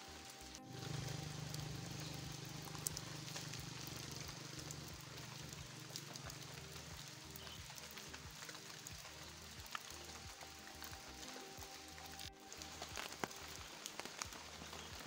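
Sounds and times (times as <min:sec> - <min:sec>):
rain falling: 0:00.0 - 0:15.0
drips ticking: 0:00.2 - 0:15.0.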